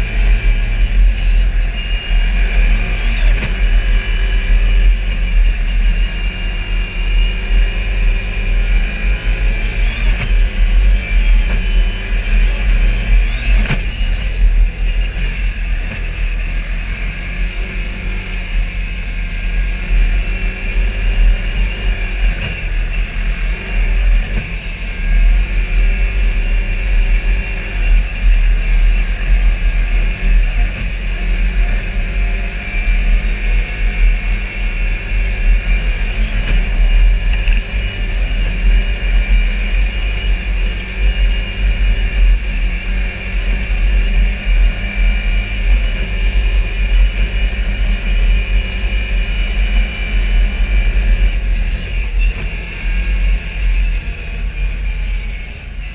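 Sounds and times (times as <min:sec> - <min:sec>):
utility vehicle engine rumble: 0:00.0 - 0:55.9.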